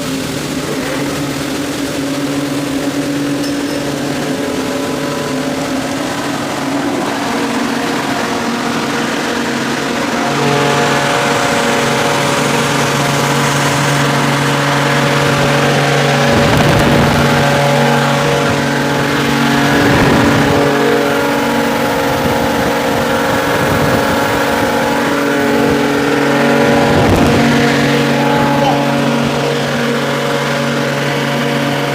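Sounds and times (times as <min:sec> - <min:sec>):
air compressor humming: 0:00.0 - 0:31.9.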